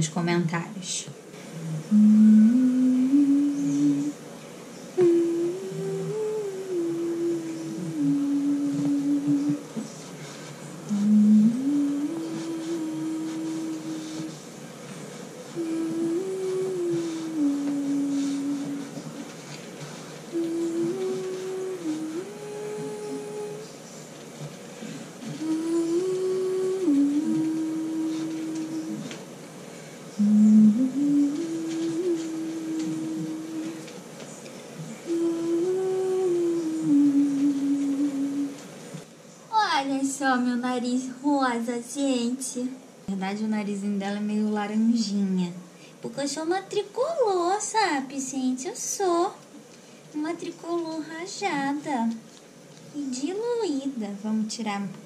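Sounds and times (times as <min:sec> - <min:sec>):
woman humming a slow tune: 0:01.5 - 0:04.2, 0:04.9 - 0:24.1, 0:24.8 - 0:29.3, 0:30.1 - 0:38.7, 0:42.0 - 0:49.4, 0:50.2 - 0:52.2.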